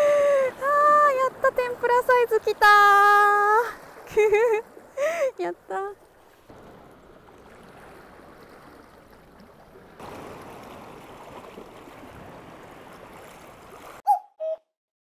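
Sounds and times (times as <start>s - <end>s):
sea noise washing: 0.0s - 14.6s.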